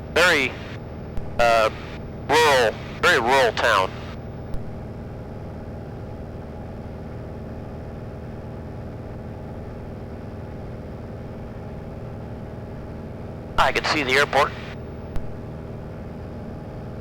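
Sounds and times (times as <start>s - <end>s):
airplane engine droning in cabin: 0.0s - 17.0s.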